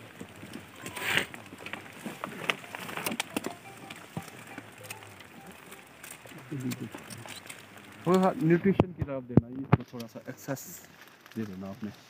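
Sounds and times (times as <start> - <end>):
twigs rustling: 0.0 - 8.8, 9.5 - 12.0.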